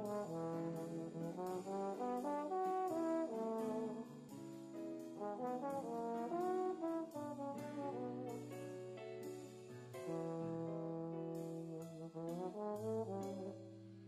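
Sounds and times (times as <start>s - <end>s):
instrumental background music: 0.0s - 14.0s.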